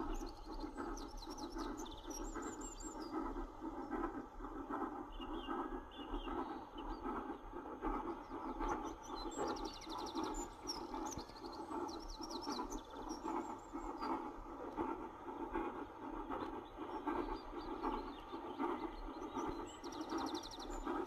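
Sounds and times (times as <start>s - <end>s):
small birds chirping: 0.0s - 21.0s
steam locomotive exhaust beat: 0.0s - 21.0s.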